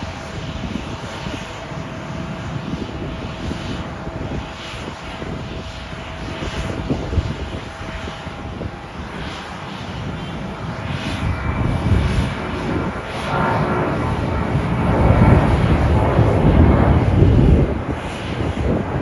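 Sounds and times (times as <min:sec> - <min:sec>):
airliner engines roaring: 0:00.0 - 0:19.0.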